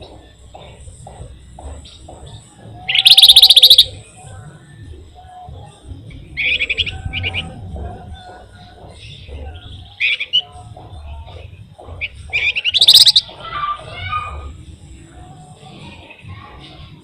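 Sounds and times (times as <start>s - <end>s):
songbird chirping and trilling: 0.0s - 17.0s.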